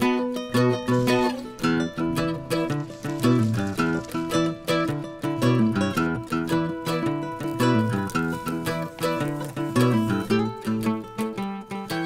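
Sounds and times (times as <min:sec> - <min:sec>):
plucked strings music: 0:00.0 - 0:12.0.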